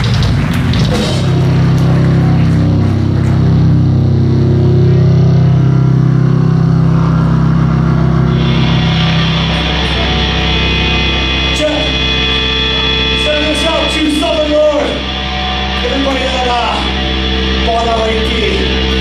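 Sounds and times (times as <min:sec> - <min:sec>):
rock band sustained chord: 0:00.0 - 0:19.0.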